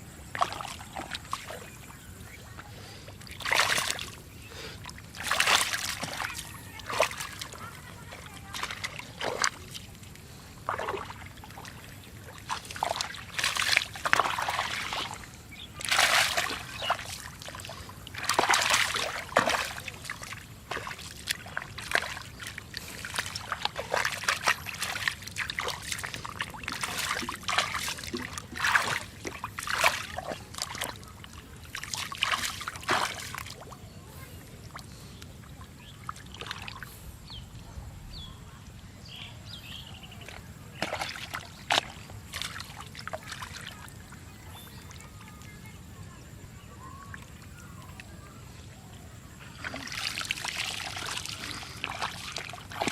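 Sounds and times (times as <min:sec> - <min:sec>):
hands splashing in muddy water: 0:00.3 - 0:33.8, 0:35.5 - 0:37.0, 0:40.2 - 0:44.1, 0:49.4 - 0:52.9.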